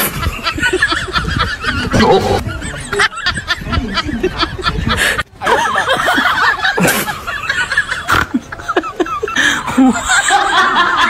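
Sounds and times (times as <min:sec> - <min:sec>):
man laughing: 0:00.3 - 0:11.0.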